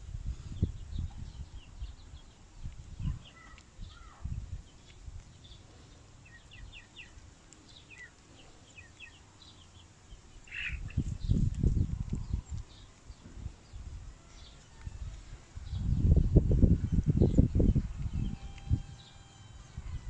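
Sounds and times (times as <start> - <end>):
small birds chirping: 0.3 - 20.0.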